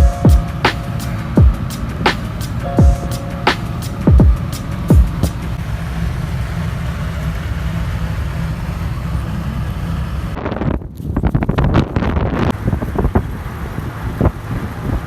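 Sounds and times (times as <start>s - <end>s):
engine and road noise: 0.0s - 15.0s.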